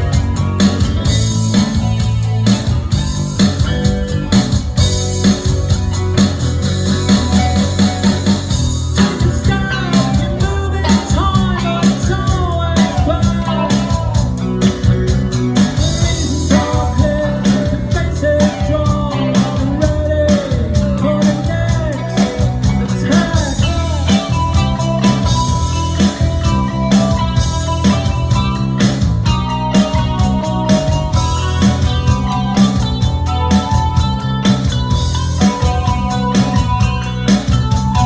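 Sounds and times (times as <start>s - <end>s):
loud rock music: 0.0s - 38.0s
sung melody: 0.0s - 38.0s.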